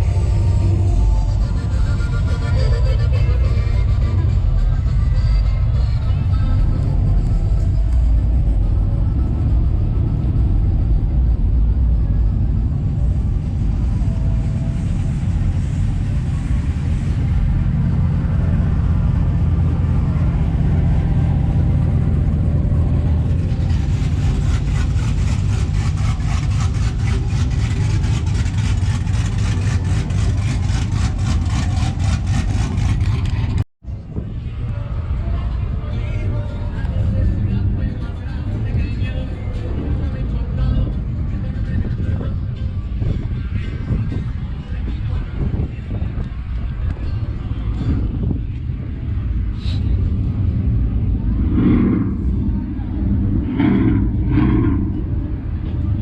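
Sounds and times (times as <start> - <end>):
loud vehicle engine rumbling: 0.0 - 56.0.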